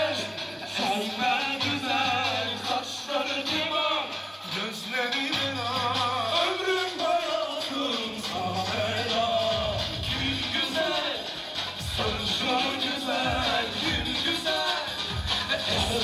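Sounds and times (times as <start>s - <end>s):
lively dance music: 0.0s - 16.0s.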